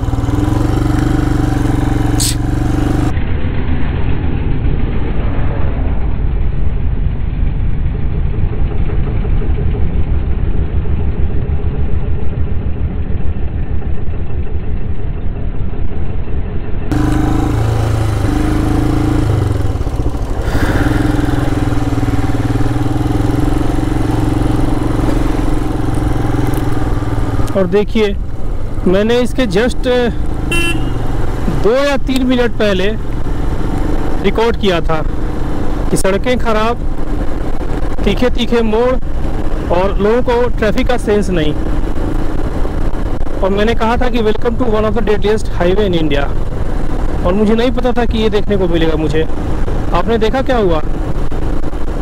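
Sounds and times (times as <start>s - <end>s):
motorcycle engine humming: 0.0s - 3.3s, 7.1s - 52.0s
dull dense rumble: 0.0s - 16.2s, 16.8s - 52.0s.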